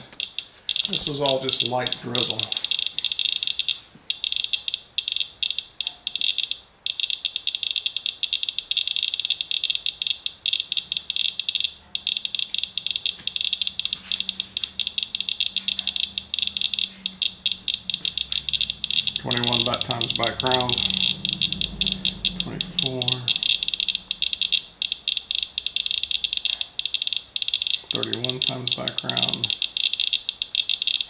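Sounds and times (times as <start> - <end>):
geiger counter chirping: 0.0 - 31.0.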